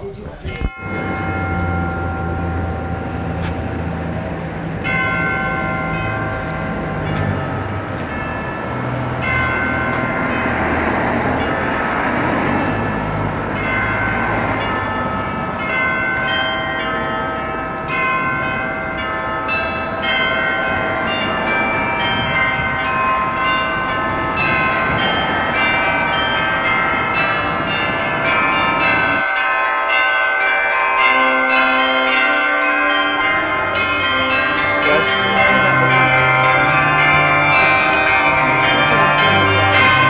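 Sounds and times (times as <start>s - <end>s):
church bells pealing: 0.0s - 40.0s.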